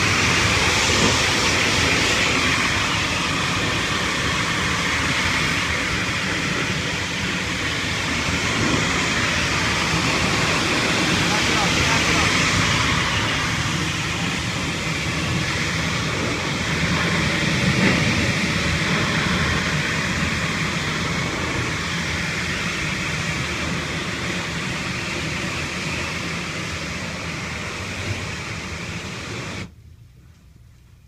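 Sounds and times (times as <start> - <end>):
pressure washer spraying: 0.0 - 29.7.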